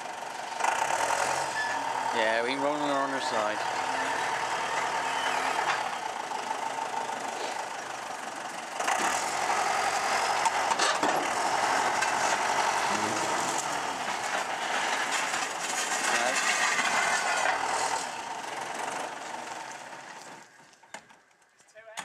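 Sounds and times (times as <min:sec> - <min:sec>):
tractor diesel engine running: 0:00.0 - 0:21.5.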